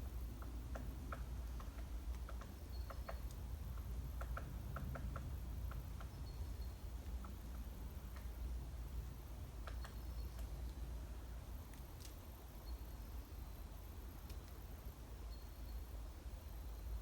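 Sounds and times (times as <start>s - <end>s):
small birds chipping: 0.0s - 16.0s
steady low rumble: 0.0s - 17.0s.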